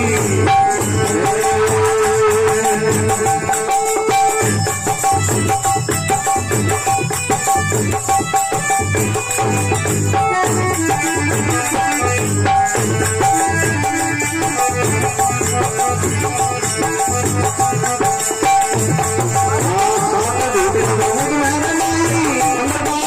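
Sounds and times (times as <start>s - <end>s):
jingling hand percussion: 0.0s - 23.0s
steady drum beat: 0.0s - 23.0s.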